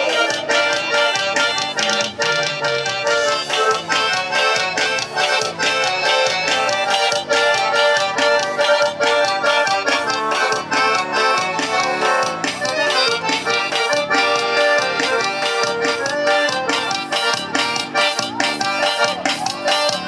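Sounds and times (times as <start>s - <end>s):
accordion playing: 0.0s - 20.0s
percussion beat: 0.0s - 20.0s.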